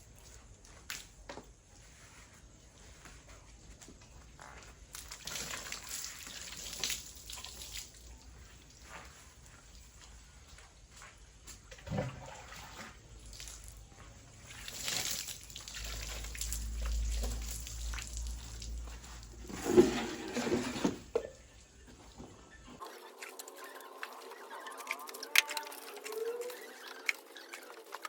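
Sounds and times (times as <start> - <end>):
water splashing and trickling: 4.5 - 22.2, 22.8 - 28.0.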